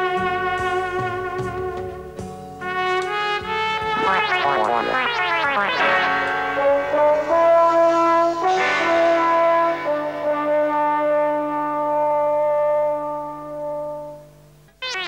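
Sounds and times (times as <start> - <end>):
brass theme music: 0.0 - 14.2.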